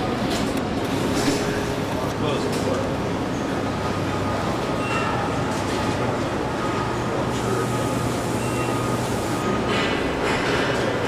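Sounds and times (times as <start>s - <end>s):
machinery rumble and hum: 0.0s - 11.0s.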